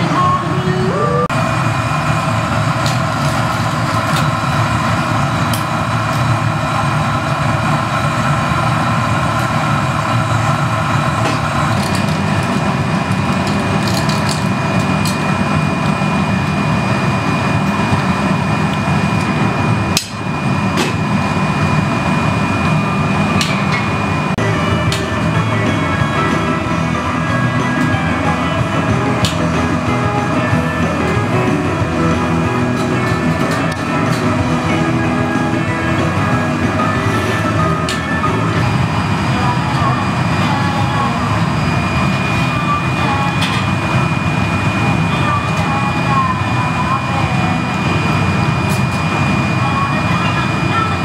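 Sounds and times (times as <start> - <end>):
gas burners and blower fans roaring: 0.0 - 51.0.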